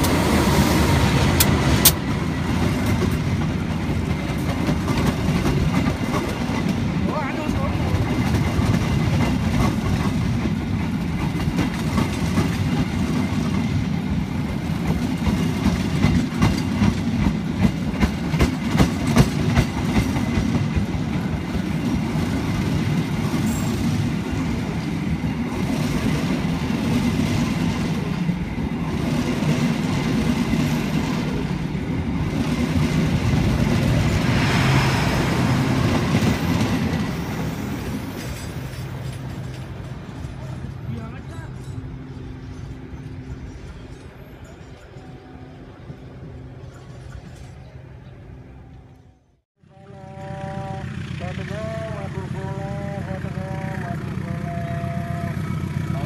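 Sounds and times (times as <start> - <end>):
clickety-clack over rail joints: 0.0 - 45.4
train wheels rumbling on rail: 0.0 - 56.0.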